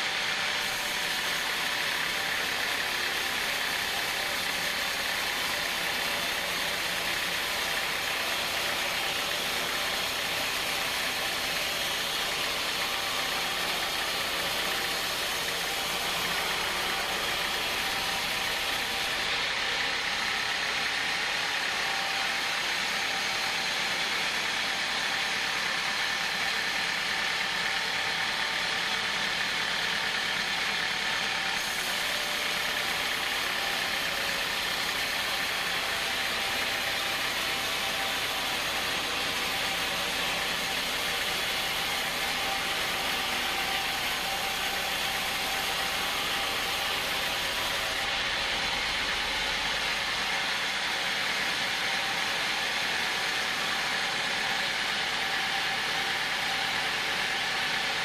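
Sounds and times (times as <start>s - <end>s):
band saw whining through wood: 0.0s - 58.0s.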